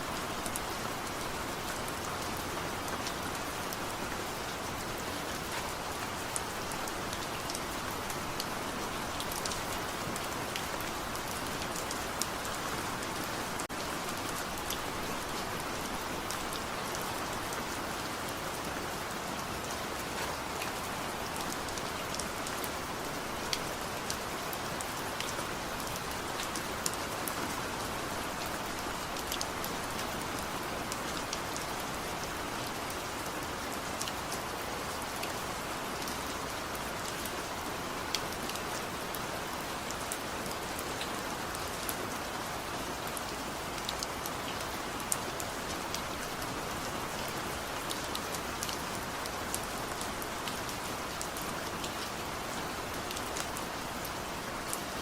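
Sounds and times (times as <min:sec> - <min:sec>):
raindrops ticking on a surface: 0:00.2 - 0:55.0.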